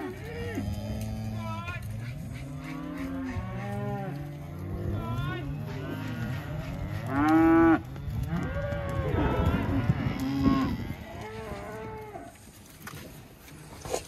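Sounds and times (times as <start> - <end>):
cows mooing: 0.0 - 12.4.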